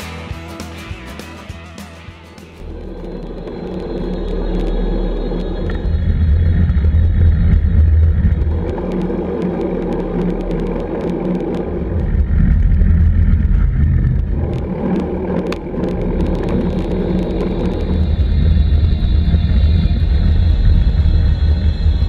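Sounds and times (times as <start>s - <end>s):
bike ticks and rattles: 0.0s - 22.0s
wind and road noise: 2.5s - 22.0s.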